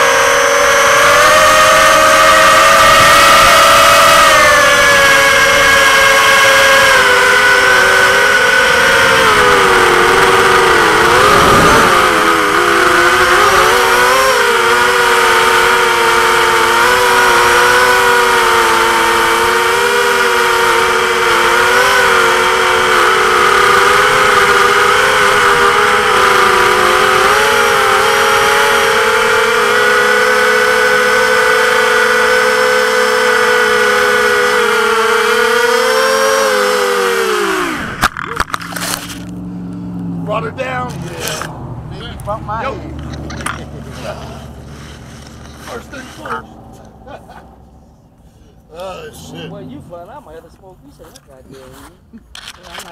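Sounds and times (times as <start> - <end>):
drone motors whining: 0.0 - 51.4.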